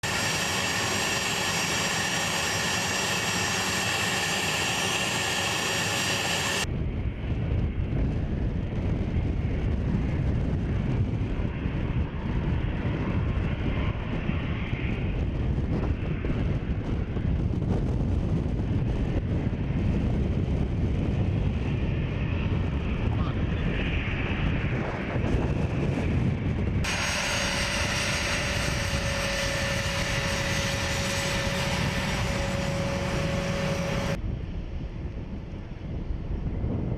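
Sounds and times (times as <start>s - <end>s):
deep rough engine rumble: 0.0s - 36.9s
jet engines high-pitched whine: 0.0s - 36.9s.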